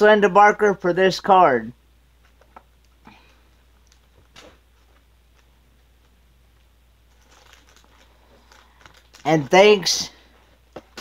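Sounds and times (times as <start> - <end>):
soft rustling: 2.2 - 11.0.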